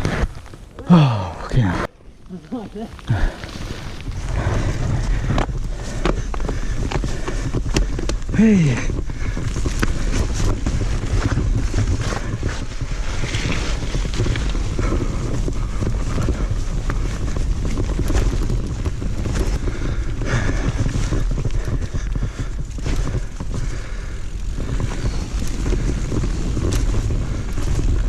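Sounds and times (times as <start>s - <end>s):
tyres rumbling over dirt and rock: 0.0s - 28.0s
bike chain and frame rattling: 2.5s - 28.0s
wind buffeting microphone: 2.7s - 28.0s.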